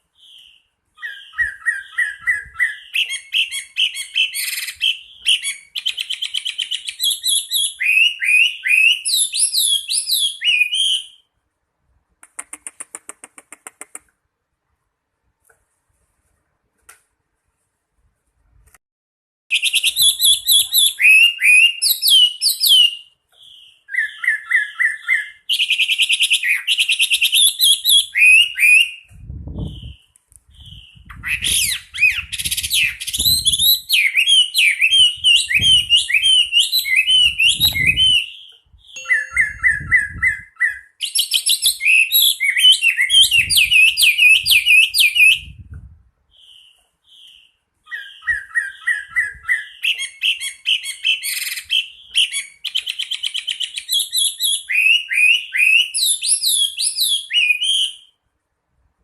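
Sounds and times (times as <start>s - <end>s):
songbird whistling and trilling: 0.1s - 11.3s, 19.5s - 58.2s.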